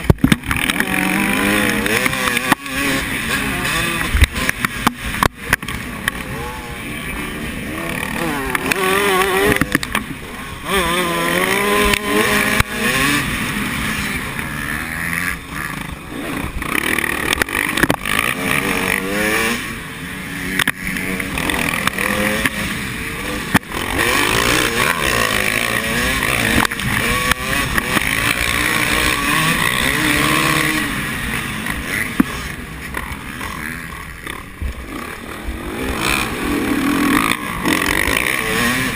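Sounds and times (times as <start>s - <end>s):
motocross bikes racing: 0.0s - 38.9s.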